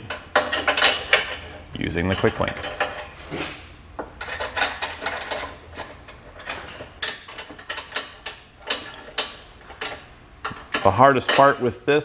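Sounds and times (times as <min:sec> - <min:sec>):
metal cable and link clinking: 0:00.1 - 0:03.2, 0:04.1 - 0:11.6.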